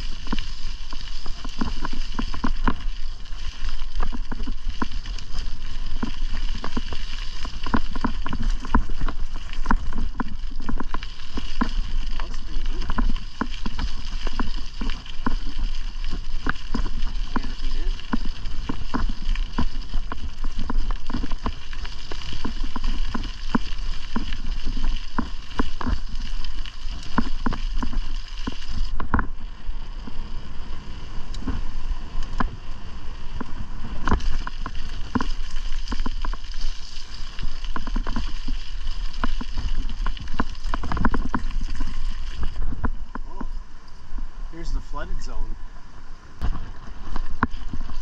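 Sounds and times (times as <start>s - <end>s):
bicycle clicks and rattles: 0.0s - 29.5s, 33.3s - 43.2s
wind rumbling on microphone: 0.0s - 48.0s.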